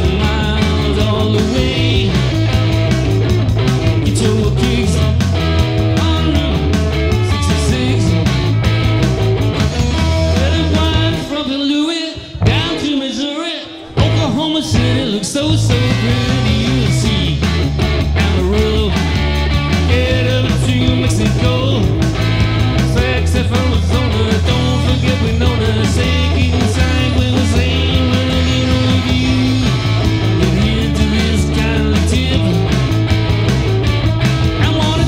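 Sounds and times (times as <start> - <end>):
heavy bass line: 0.0 - 11.4, 12.2 - 13.2, 14.0 - 35.0
electric guitar: 0.0 - 35.0.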